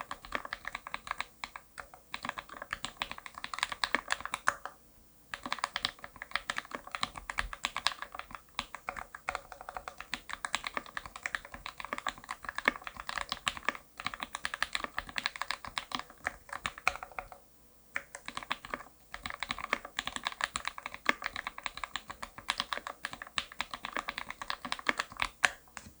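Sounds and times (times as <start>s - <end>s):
fast typing on mechanical keyboard: 0.0s - 4.7s, 5.3s - 17.4s, 18.0s - 25.7s.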